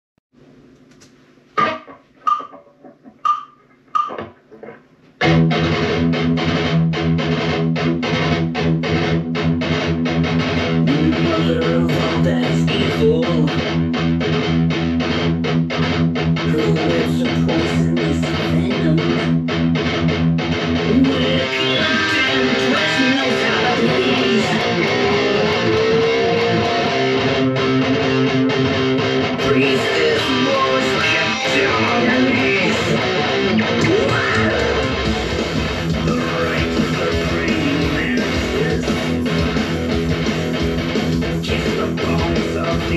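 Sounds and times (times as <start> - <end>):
electric guitar riff: 1.6 - 42.9
backing track music: 5.2 - 42.9.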